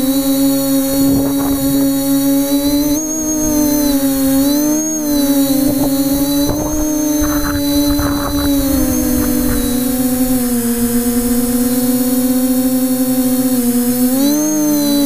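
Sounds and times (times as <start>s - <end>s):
wind rumbling on microphone: 0.0s - 13.8s
drone propellers whining: 0.0s - 15.0s.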